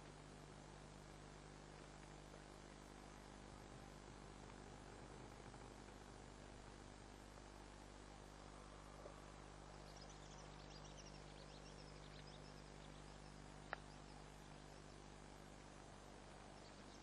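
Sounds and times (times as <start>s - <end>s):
low hum and hiss: 0.0s - 17.0s
small birds chirping: 0.0s - 17.0s.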